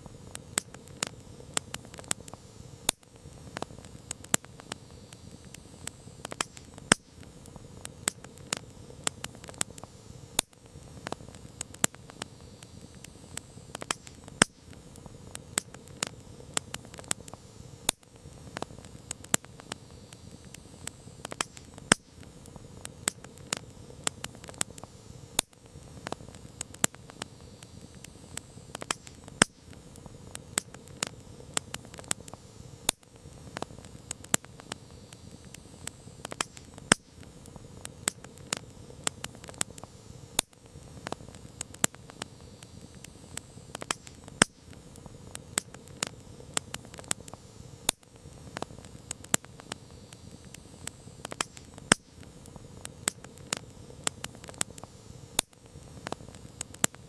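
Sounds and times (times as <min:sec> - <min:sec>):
campfire crackling: 0:00.0 - 0:57.0
soft hiss of burning: 0:00.0 - 0:57.0.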